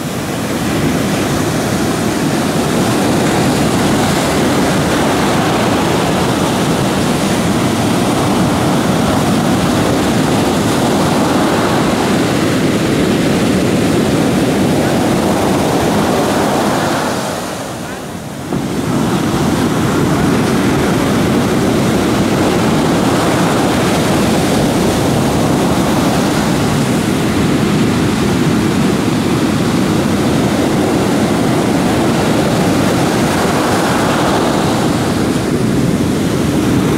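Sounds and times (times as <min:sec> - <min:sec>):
surf washing over beach: 0:00.0 - 0:36.9
wind on microphone: 0:00.0 - 0:36.9.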